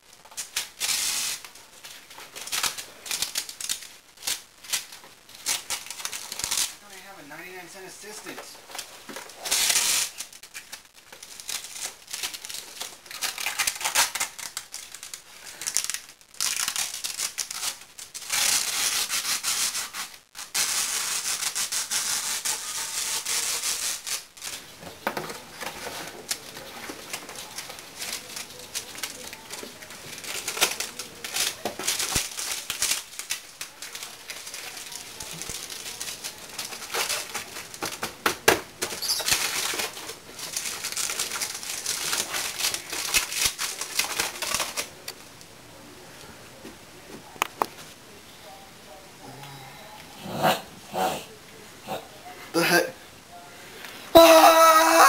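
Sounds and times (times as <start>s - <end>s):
cardboard crinkling: 0.0s - 45.3s.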